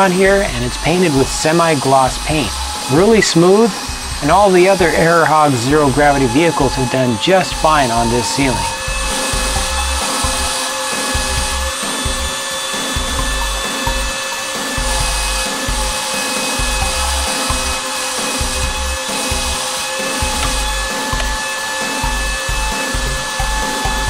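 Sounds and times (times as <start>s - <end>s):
low throb: 0.0s - 24.0s
suction fan whining: 0.0s - 24.0s.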